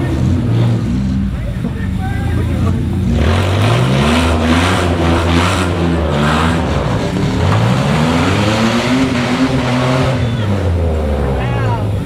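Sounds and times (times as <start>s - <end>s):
truck engines revving hard: 0.0s - 12.0s.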